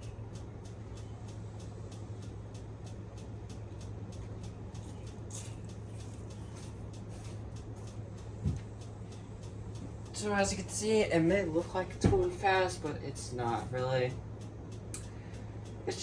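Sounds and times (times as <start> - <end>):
ceiling fan motor hum: 0.0 - 16.0
faint regular ticking: 0.0 - 16.0.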